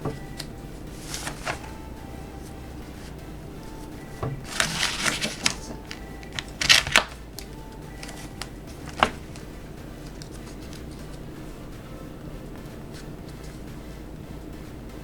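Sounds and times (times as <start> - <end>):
paper sheet rustling: 0.0 - 11.7, 12.6 - 14.5.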